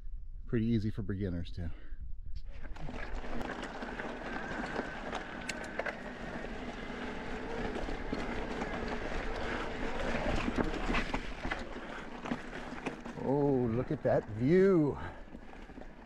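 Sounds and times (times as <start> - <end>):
bike tyres on gravel: 2.5 - 16.0
bike rattling over stones: 2.6 - 16.0.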